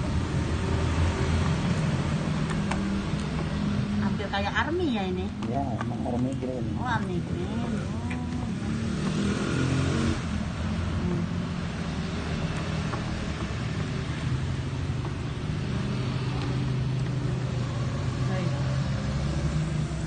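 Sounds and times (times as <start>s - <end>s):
engine low hum: 0.0s - 20.0s.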